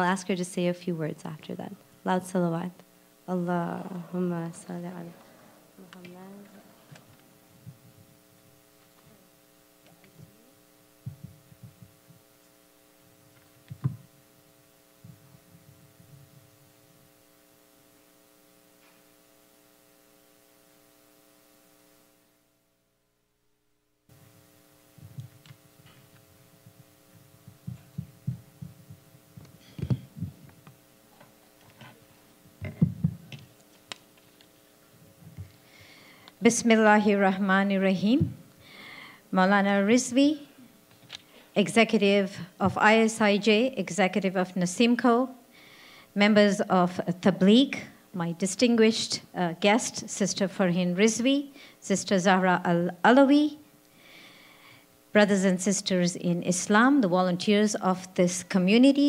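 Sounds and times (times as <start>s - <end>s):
steady electrical hum: 0.0s - 59.0s.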